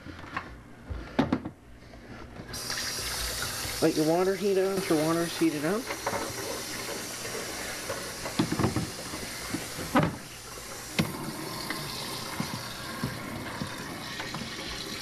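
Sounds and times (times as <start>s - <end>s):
tap running: 2.5s - 15.0s.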